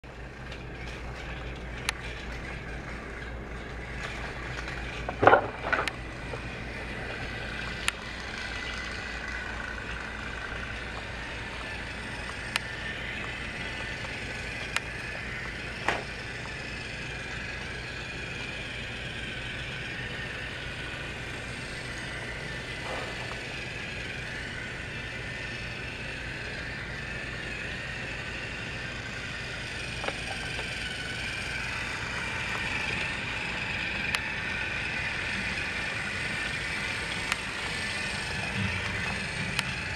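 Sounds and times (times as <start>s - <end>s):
toy train motor whir: 0.0s - 39.9s
toy train wheels rattling: 0.2s - 39.9s.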